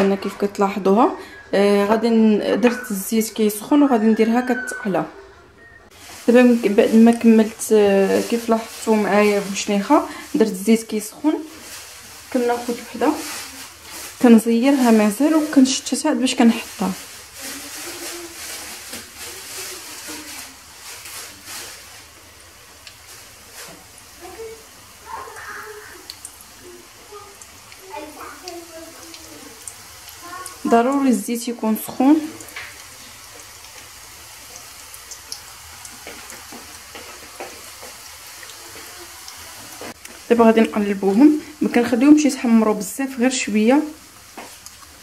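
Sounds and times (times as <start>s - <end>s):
dough sizzling in hot oil: 5.9s - 45.0s
oil crackling: 5.9s - 45.0s.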